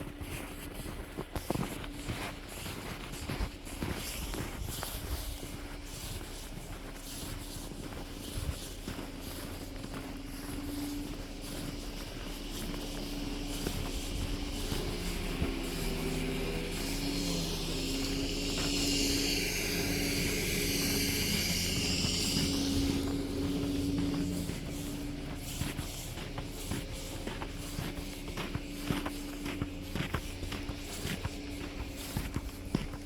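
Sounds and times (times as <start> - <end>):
vehicle engine hum: 0.0 - 33.0
hiss: 3.7 - 33.0.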